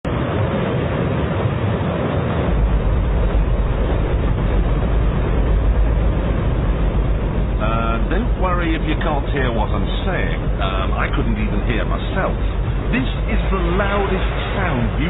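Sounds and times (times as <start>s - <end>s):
rocket engine roaring: 0.0s - 15.0s.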